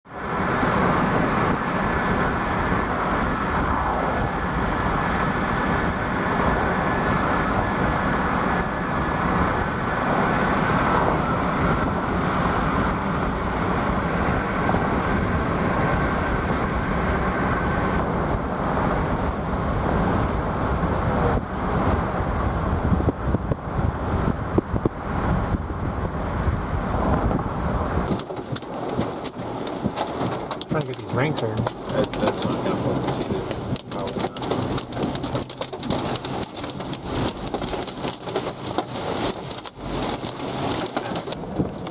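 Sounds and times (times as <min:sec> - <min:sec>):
vehicle road and wind noise: 0:00.0 - 0:41.9.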